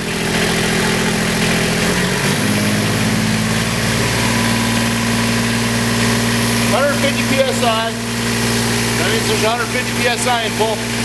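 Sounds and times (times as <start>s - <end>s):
engine-driven water pump running: 0.0s - 11.0s.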